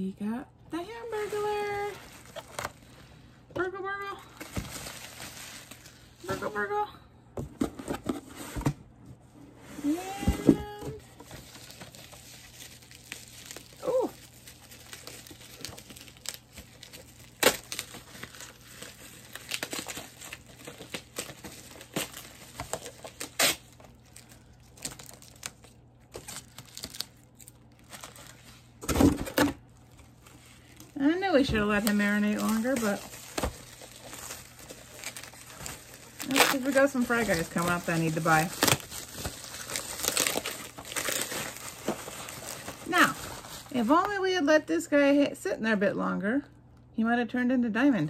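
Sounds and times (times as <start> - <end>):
plastic wrapping crinkling: 1.0 - 3.0, 4.2 - 6.6, 9.8 - 44.3.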